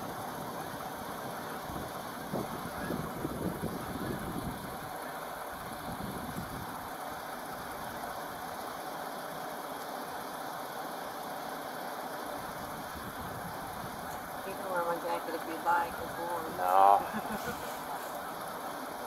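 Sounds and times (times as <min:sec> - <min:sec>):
suv engine idling: 0:00.0 - 0:19.0.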